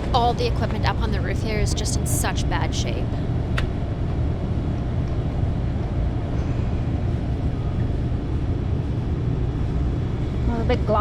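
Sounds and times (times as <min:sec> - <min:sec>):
hvac equipment rumbling: 0:00.0 - 0:11.0.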